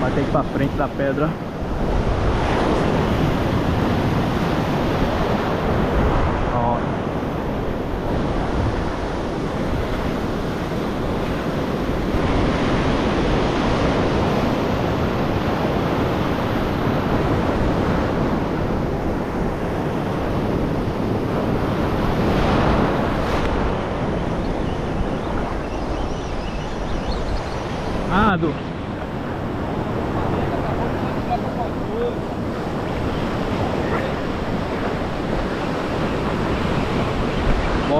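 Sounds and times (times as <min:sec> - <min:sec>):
sea surf breaking on rocks: 0:00.0 - 0:25.7, 0:27.6 - 0:37.9
wind buffeting microphone: 0:00.0 - 0:37.9.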